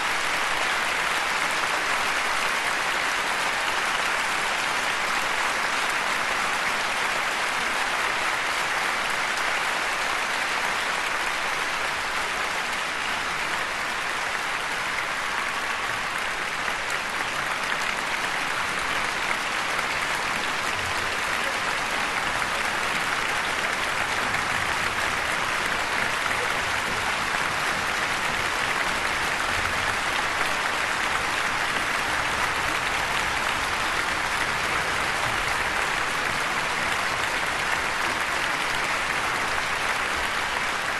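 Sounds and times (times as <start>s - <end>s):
audience applauding: 0.0s - 40.9s.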